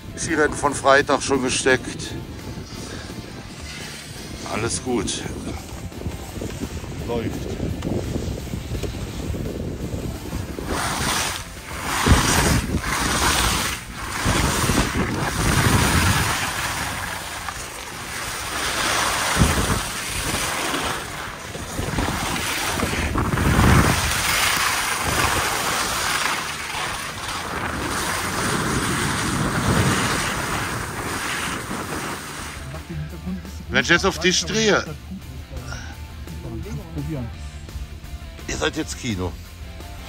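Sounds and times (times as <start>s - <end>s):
wind buffeting microphone: 0.0s - 34.8s
skis scraping on snow: 0.1s - 34.7s.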